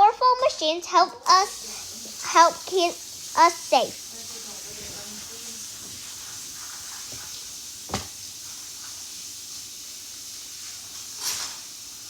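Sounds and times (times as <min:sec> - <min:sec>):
background hiss: 0:00.6 - 0:12.0.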